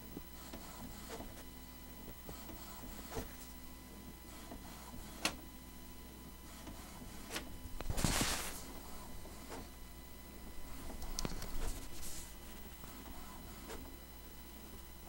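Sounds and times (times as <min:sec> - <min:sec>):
printer humming: 0:00.0 - 0:15.0.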